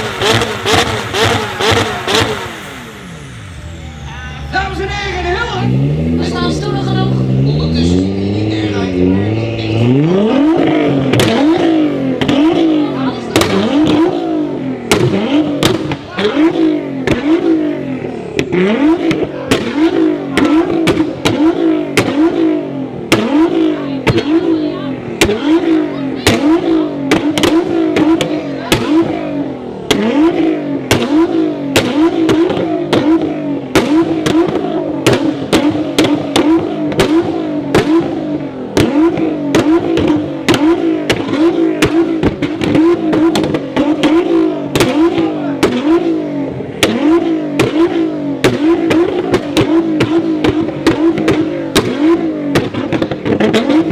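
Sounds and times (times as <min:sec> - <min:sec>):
exhaust pops and bangs: 0:00.0 - 0:03.4, 0:10.5 - 0:17.8, 0:18.4 - 0:53.9
car engine revving: 0:00.0 - 0:53.9.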